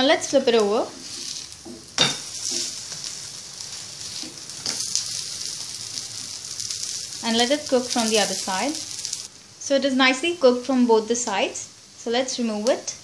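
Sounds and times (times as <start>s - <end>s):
patties sizzling in oil: 0.0s - 13.0s.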